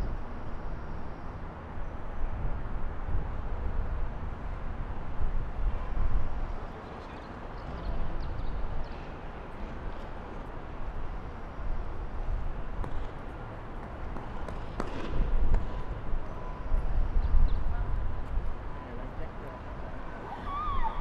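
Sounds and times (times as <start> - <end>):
city street low rumble: 0.0 - 21.0.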